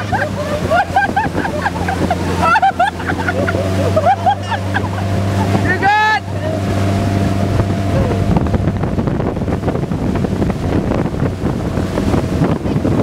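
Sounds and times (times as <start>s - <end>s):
boat engine humming: 0.0s - 13.0s
boat wake rushing: 0.0s - 13.0s
wind buffeting microphone: 0.0s - 13.0s.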